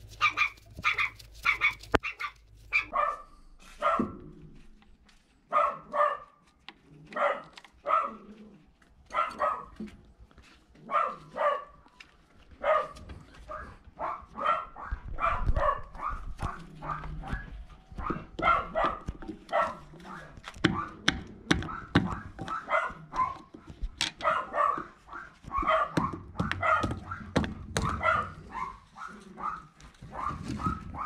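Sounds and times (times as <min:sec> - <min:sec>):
dog barking: 0:00.2 - 0:04.3, 0:05.5 - 0:06.4, 0:07.1 - 0:08.3, 0:09.1 - 0:09.8, 0:10.8 - 0:11.8, 0:12.6 - 0:23.5, 0:24.2 - 0:31.0.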